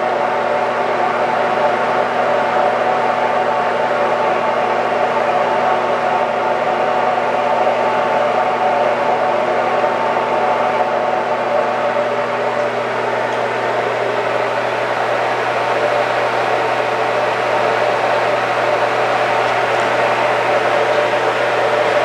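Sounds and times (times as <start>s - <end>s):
fan-like whir: 0.0s - 22.0s
idling lathe hum: 0.0s - 22.0s.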